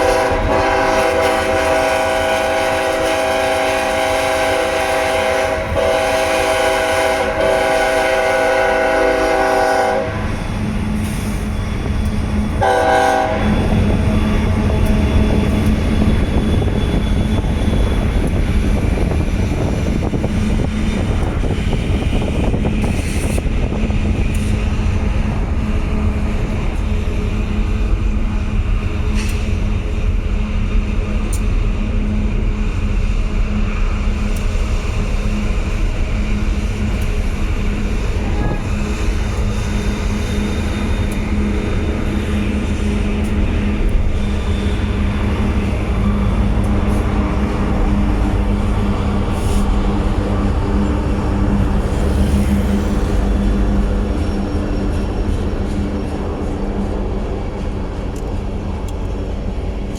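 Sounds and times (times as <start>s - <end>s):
low locomotive rumble: 0.0s - 59.9s.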